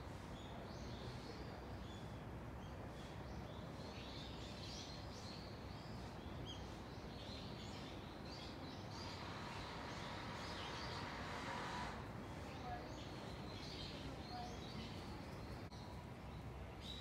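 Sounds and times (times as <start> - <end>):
small birds chirping: 0.2 - 11.4, 12.3 - 17.0.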